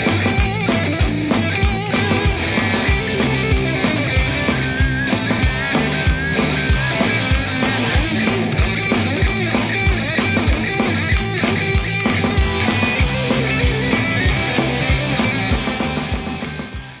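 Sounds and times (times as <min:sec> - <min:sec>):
rock music with driving drums: 0:00.0 - 0:17.0.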